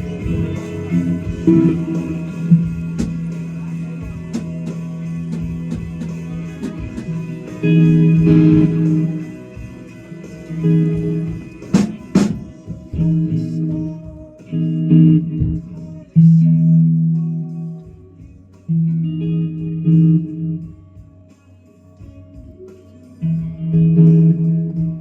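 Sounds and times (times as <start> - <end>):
guitar chords through speakers: 0.0 - 25.0.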